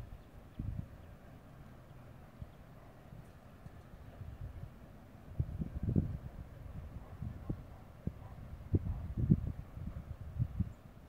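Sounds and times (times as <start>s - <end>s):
wind buffeting microphone: 0.0s - 1.3s, 2.2s - 11.0s.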